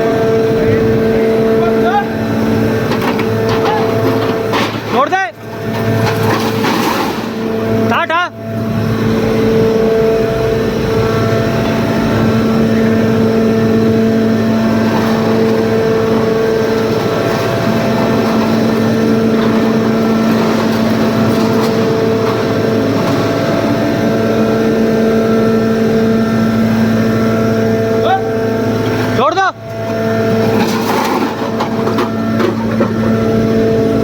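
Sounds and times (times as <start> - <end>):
baler machine humming and whining: 0.0 - 34.0.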